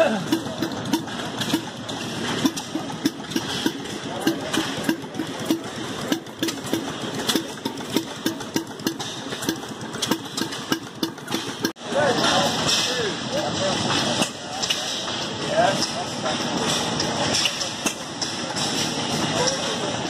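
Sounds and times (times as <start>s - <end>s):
small gas engine putting: 0.0s - 20.0s.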